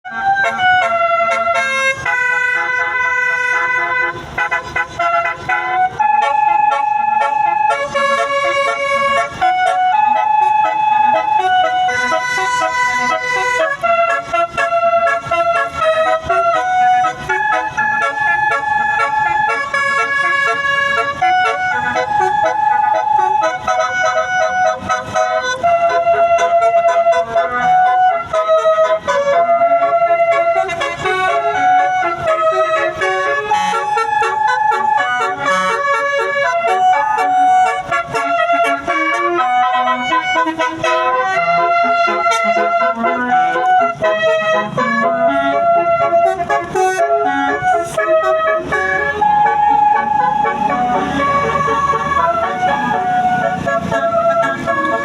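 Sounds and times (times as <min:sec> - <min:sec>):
bus horn playing fast melody: 0:00.1 - 0:55.0.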